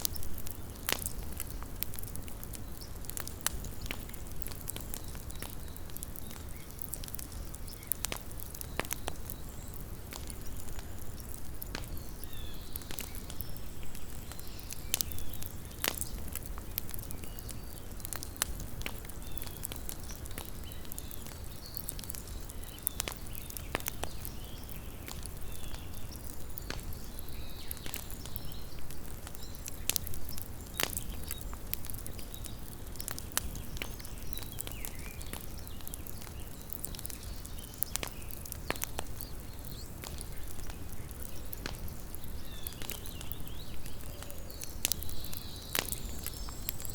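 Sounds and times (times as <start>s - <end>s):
campfire crackling and popping: 0.0s - 46.9s.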